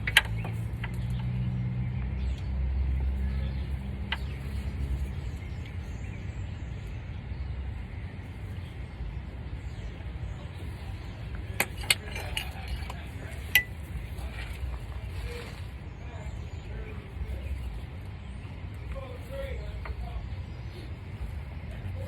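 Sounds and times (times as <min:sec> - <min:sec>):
low vehicle engine rumble: 0:00.0 - 0:22.0.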